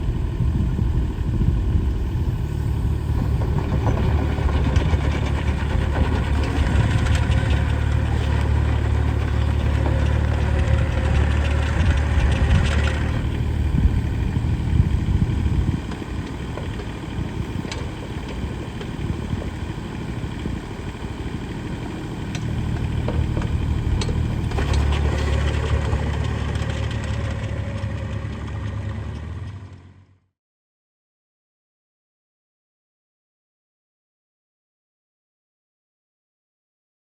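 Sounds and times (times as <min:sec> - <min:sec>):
excavator diesel engine running: 0:00.0 - 0:30.2.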